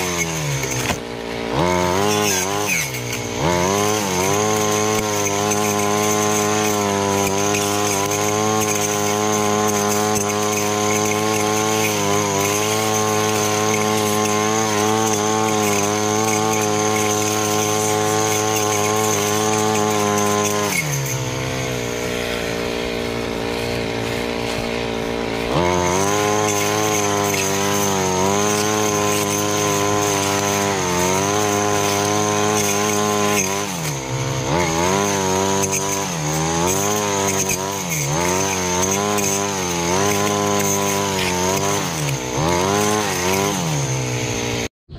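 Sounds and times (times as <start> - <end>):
metal blade cutting weeds: 0.0 - 44.7
brush cutter engine whining: 0.0 - 44.9.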